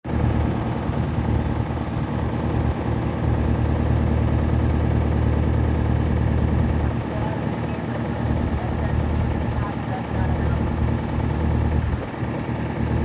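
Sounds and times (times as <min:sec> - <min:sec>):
truck engine idling: 0:00.1 - 0:13.0.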